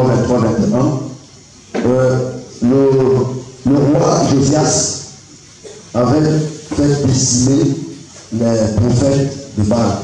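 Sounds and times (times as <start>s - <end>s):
man speaking into a microphone: 0.0s - 1.2s, 1.8s - 10.0s.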